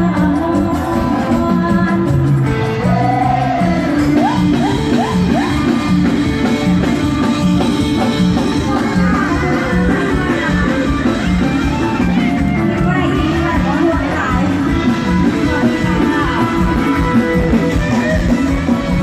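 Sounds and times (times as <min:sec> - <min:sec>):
live band music: 0:00.0 - 0:19.0.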